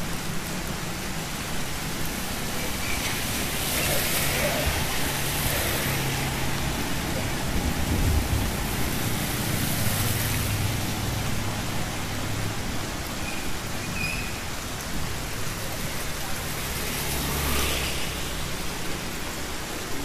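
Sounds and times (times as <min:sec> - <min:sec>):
rain on wet street: 0:00.0 - 0:20.0.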